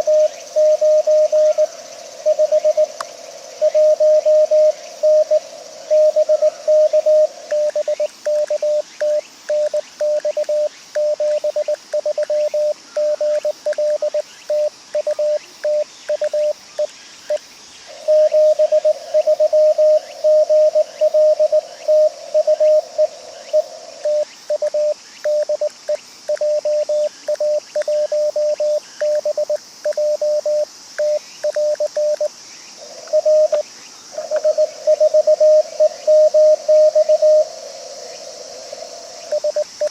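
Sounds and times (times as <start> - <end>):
faint radio hiss: 0.0 - 39.9.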